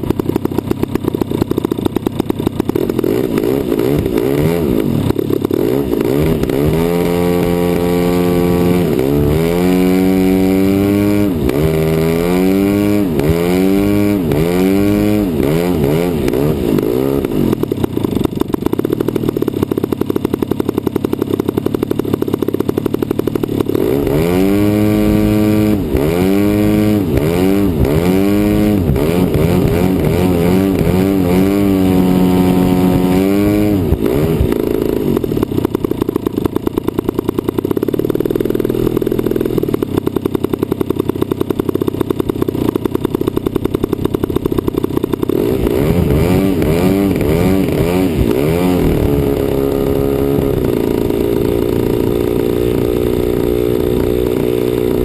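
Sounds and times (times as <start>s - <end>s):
model airplane engine running: 0.0s - 55.0s.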